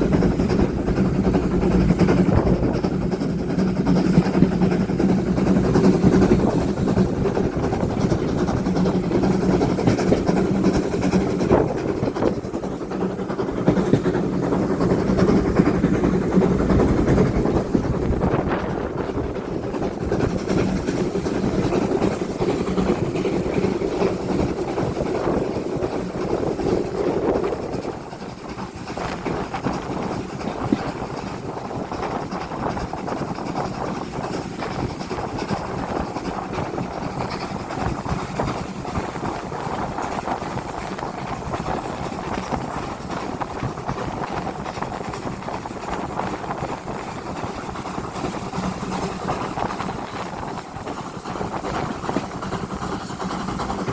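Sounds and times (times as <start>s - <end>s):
train rumbling: 0.0s - 53.9s.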